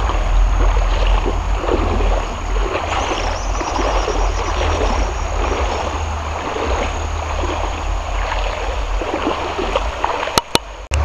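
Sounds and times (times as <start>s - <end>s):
river rapids over stones: 0.0s - 10.9s.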